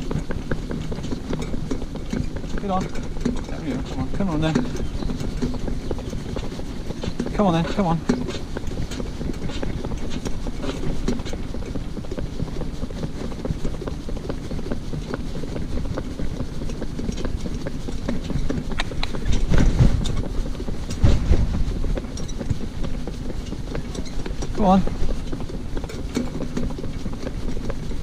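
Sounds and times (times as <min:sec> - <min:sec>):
cart rolling and rattling: 0:00.0 - 0:28.0
low rumbles: 0:00.0 - 0:28.0
pony hooves clip-clopping on tarmac: 0:00.0 - 0:28.0.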